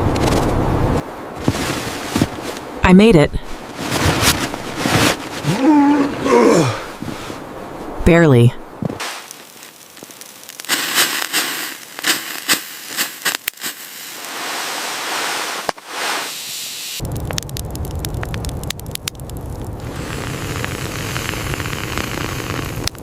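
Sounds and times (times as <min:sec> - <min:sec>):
fire crackling: 0:00.1 - 0:02.8, 0:03.4 - 0:08.0, 0:08.6 - 0:23.0.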